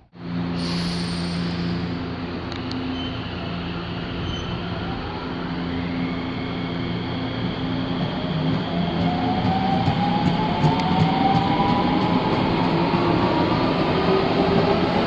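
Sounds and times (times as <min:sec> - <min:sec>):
low train drone: 0:00.0 - 0:15.0.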